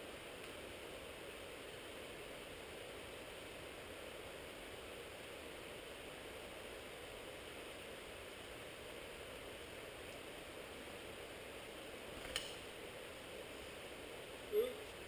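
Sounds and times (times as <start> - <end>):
faint steady rushing noise: 0.0 - 15.0.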